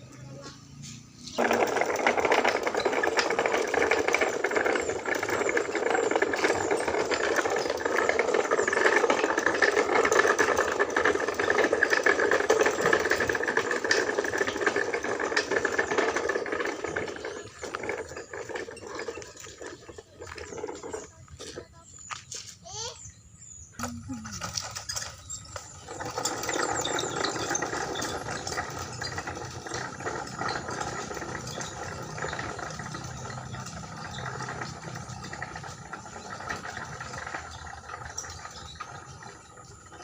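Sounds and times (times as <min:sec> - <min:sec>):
motor running with a rattle: 0:00.0 - 0:40.0.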